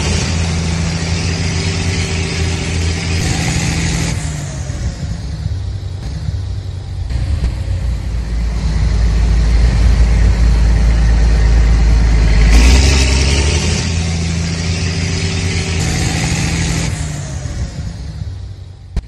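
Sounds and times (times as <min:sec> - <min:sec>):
tractor engine rumbling: 0:00.0 - 0:19.0.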